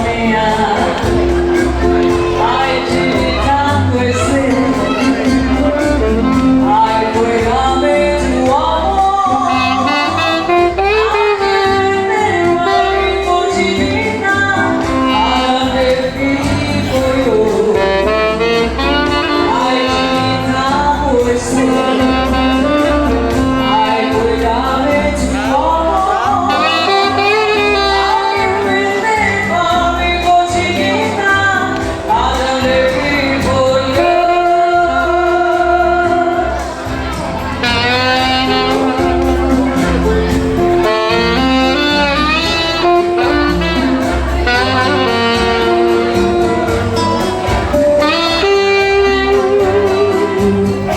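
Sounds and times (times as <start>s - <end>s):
band music with bass beat: 0.0s - 50.9s.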